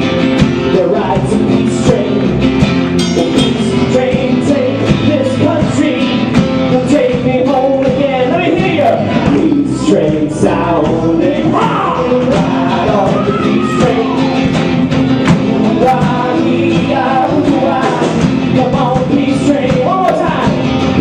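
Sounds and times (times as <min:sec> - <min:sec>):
rock band playing: 0:00.0 - 0:21.0
person singing: 0:00.6 - 0:21.0.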